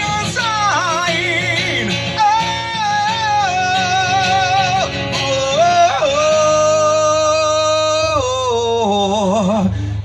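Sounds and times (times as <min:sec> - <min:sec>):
man singing with vibrato: 0:00.0 - 0:10.0
rock ballad on guitar: 0:00.0 - 0:10.0.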